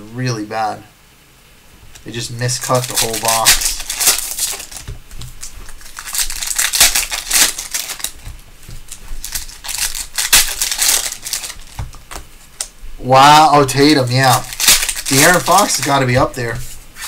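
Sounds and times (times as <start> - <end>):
foil wrappers crinkling: 2.0 - 12.8, 13.4 - 17.0.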